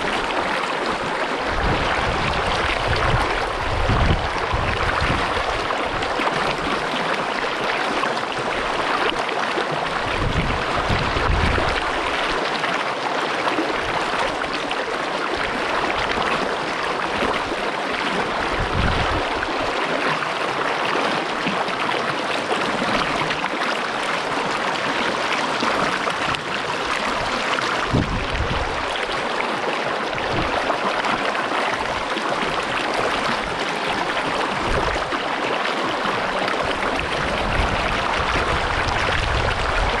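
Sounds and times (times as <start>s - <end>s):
creek water rushing over rocks: 0.0s - 40.0s.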